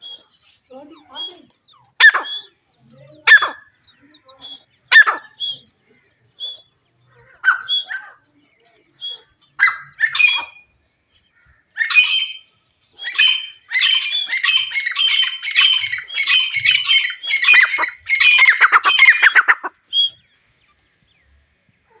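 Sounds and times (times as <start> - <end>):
partridge calling: 0.0 - 8.2, 9.0 - 10.7, 11.4 - 20.3.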